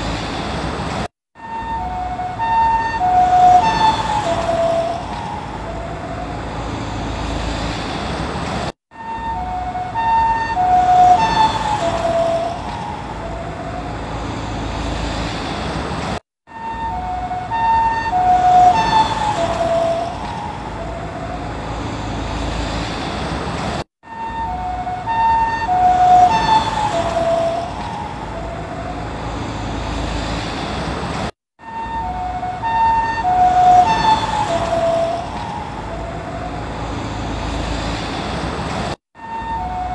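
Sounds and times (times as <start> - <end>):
road noise: 0.0 - 39.9
two-tone ambulance siren passing: 1.4 - 8.0, 8.9 - 15.6, 16.5 - 23.1, 24.0 - 30.6, 31.6 - 38.3, 39.2 - 39.9.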